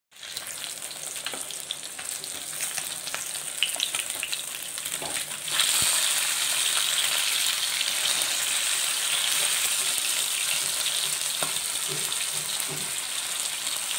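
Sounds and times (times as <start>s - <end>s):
fish sizzling in oil: 0.1s - 13.9s.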